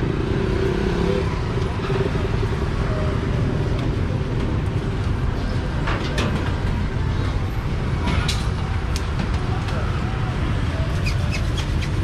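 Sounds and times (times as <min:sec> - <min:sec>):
rumble of motorbike traffic: 0:00.0 - 0:12.0.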